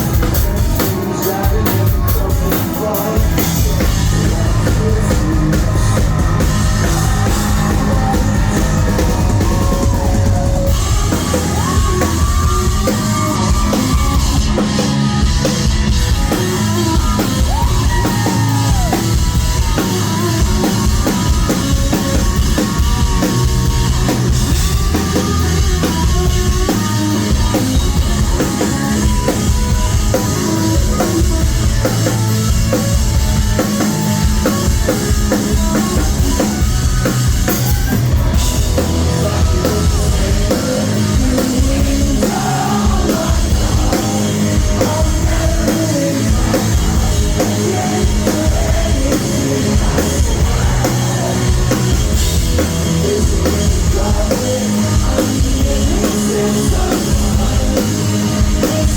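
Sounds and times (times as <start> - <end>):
drum kit beat: 0.0 - 58.9
live rock band playing: 0.0 - 58.9.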